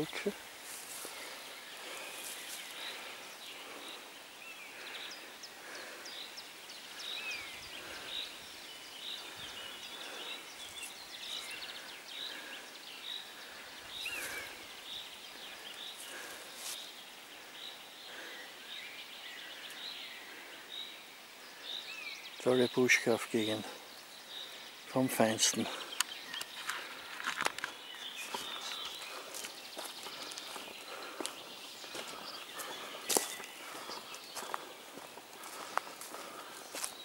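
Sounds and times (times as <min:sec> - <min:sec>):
birds chirping: 0:00.0 - 0:37.0
faint outdoor background: 0:00.0 - 0:37.0.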